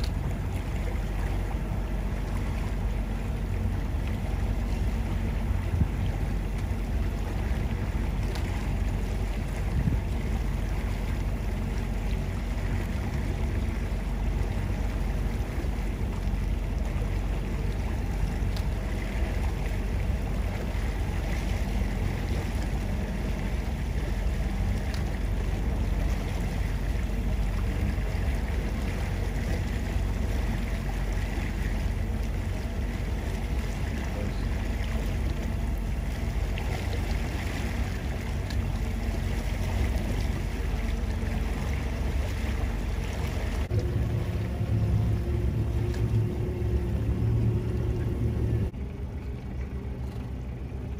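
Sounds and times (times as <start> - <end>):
ship machinery rumbling: 0.0 - 50.9.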